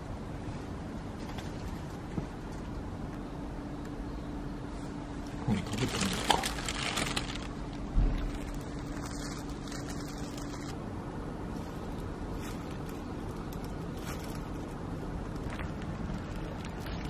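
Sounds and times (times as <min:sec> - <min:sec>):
faint steady hum: 0:00.0 - 0:17.0
low rumbling background noise: 0:00.0 - 0:17.0.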